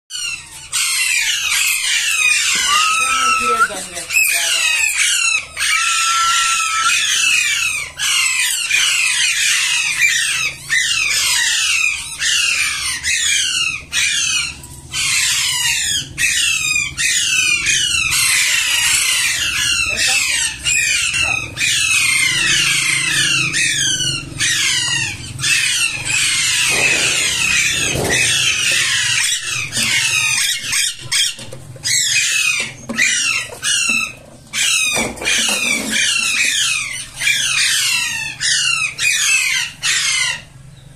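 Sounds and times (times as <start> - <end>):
small birds chirping and squawking: 0.1 - 40.9.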